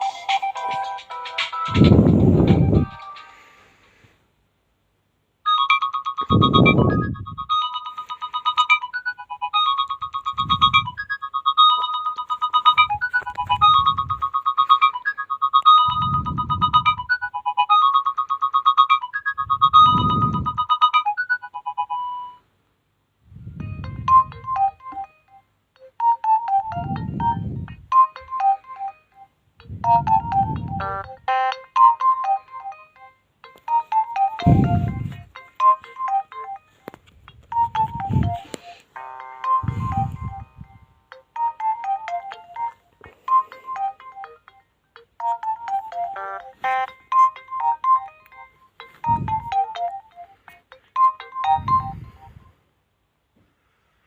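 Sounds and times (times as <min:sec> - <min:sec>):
phone ringtone beeping melody: 0:00.0 - 0:03.7, 0:05.4 - 0:22.5, 0:23.3 - 0:52.6.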